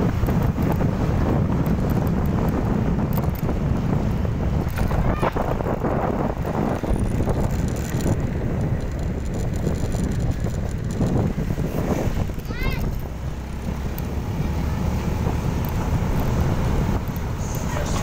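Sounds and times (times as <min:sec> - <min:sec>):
low motorcycle rumble: 0:00.0 - 0:18.0
wind buffeting microphone: 0:00.0 - 0:18.0.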